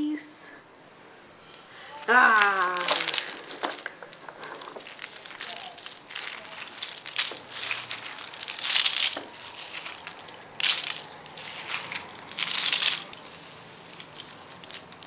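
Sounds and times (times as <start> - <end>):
puzzle pieces clattering on floor: 1.8 - 15.0.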